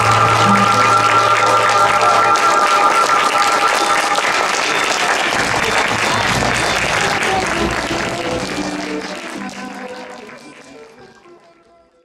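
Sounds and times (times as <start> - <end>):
audience applauding: 0.0 - 11.6
music: 0.0 - 12.0.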